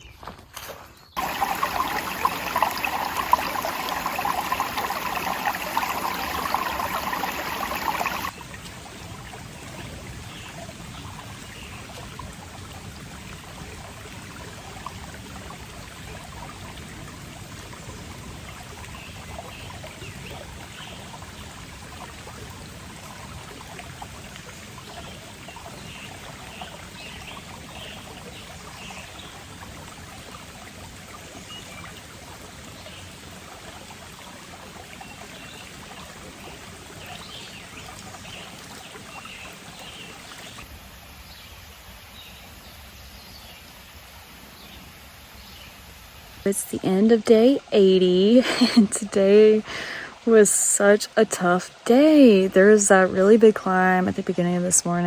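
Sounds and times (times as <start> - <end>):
creek water running: 0.6 - 55.0.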